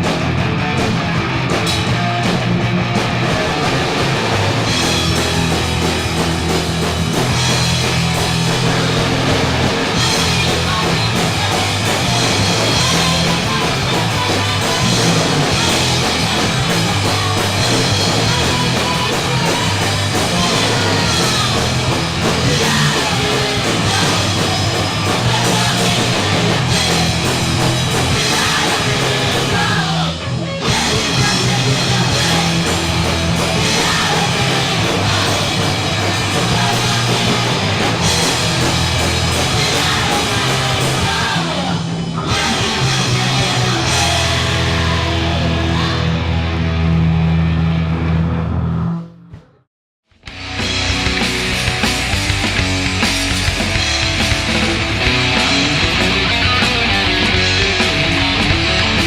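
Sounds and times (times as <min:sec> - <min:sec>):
punk rock band playing live: 0:00.0 - 0:48.8, 0:50.1 - 0:59.0
electric guitar: 0:00.0 - 0:49.0, 0:50.2 - 0:59.0
drum kit: 0:00.0 - 0:59.0.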